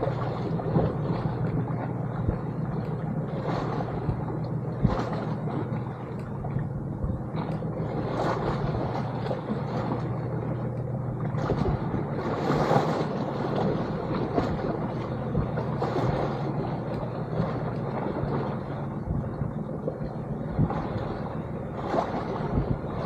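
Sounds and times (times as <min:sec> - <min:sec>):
sea water splashing: 0:00.0 - 0:23.0
steady low hum: 0:00.0 - 0:23.0.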